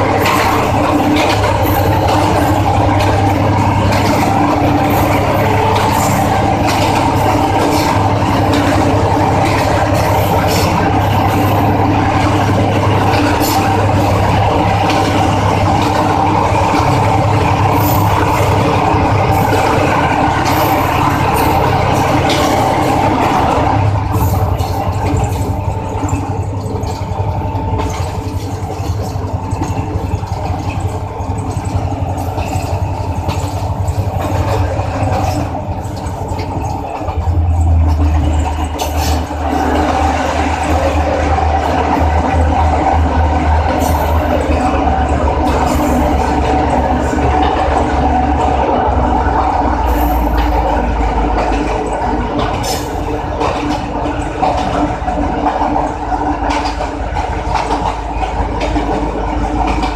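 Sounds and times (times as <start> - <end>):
locomotive engine hum: 0.0 - 59.9
train wheels clattering on rails: 0.0 - 59.9.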